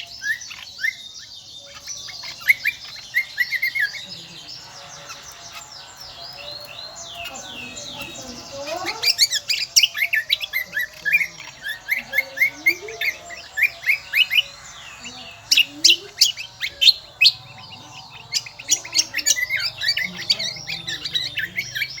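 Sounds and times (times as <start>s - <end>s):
songbird shrill chattering song: 0.0s - 22.0s.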